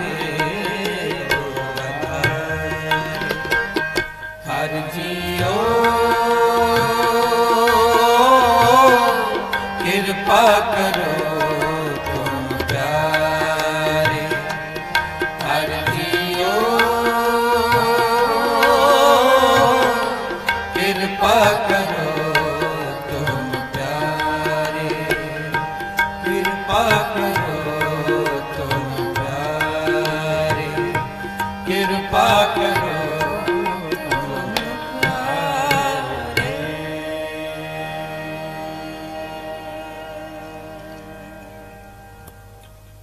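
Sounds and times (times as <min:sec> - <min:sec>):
tabla rhythm: 0:00.0 - 0:43.0.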